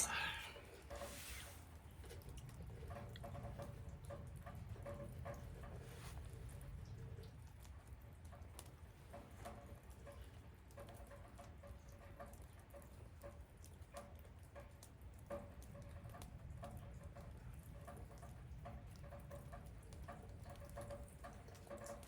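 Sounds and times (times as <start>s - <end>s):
raindrops pattering: 0.0s - 22.0s.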